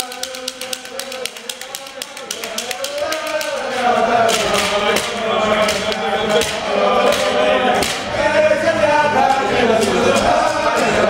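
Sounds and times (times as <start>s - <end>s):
men singing chant-like song: 0.0s - 11.0s.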